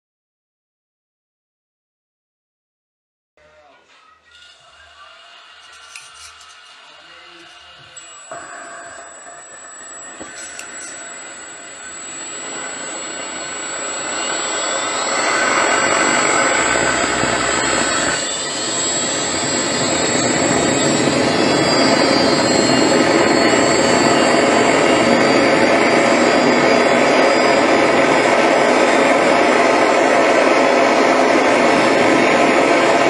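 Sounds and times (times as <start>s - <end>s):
small jet engine roaring: 4.4s - 33.0s.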